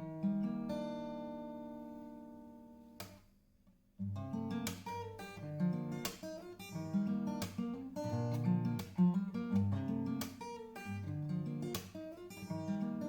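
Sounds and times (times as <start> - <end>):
acoustic guitar playing: 0.0 - 3.2, 4.0 - 13.0.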